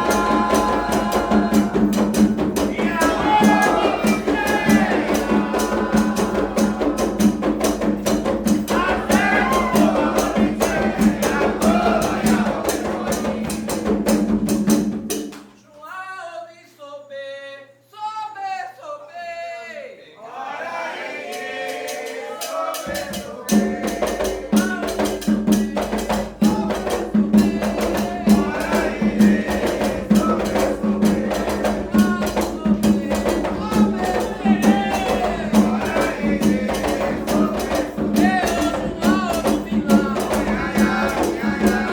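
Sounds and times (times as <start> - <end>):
voices singing: 0.0 - 14.8, 15.8 - 41.9
drums and percussion beat: 0.0 - 15.6, 21.3 - 41.9.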